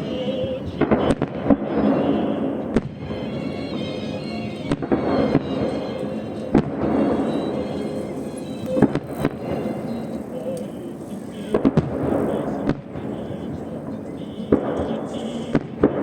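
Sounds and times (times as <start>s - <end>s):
music: 0.0s - 15.7s
crowd noise: 0.0s - 16.0s
fireworks bangs: 0.0s - 16.0s.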